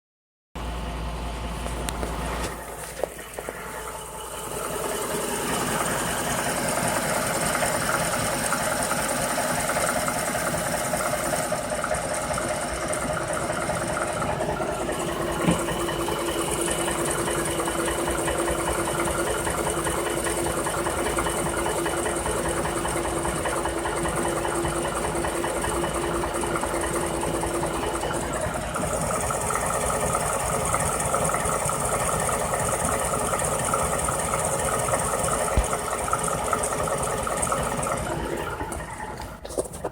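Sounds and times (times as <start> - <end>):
engine running with a knock: 1.5 - 39.9.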